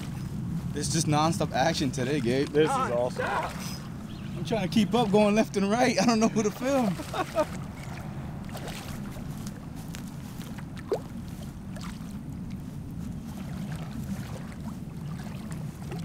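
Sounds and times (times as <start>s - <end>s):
muffled water sloshing: 0.0s - 16.0s.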